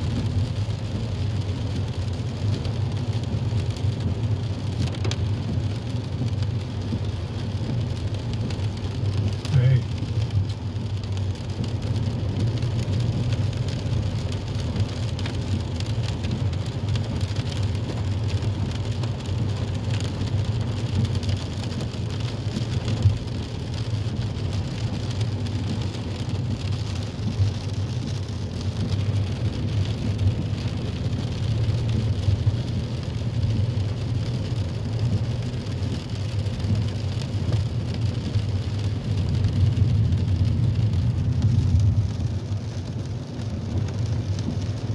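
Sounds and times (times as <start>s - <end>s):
rain on windscreen: 0.0s - 44.9s
road and engine rumble: 0.0s - 44.9s
tyres hissing on wet road: 0.0s - 44.9s.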